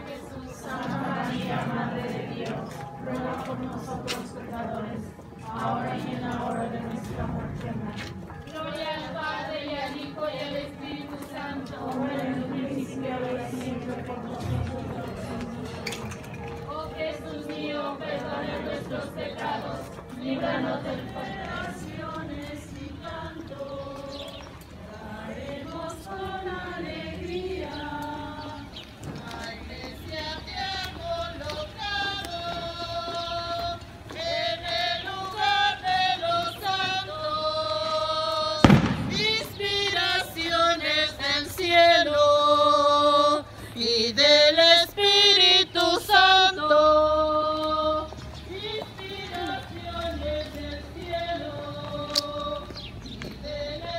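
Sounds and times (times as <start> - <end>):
crowd singing a hymn: 0.0 - 53.9.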